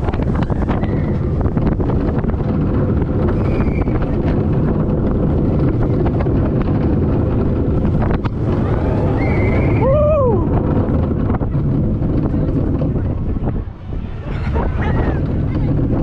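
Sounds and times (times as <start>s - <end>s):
roller coaster wheels rumbling: 0.0s - 16.0s
wind rushing over microphone: 0.0s - 16.0s.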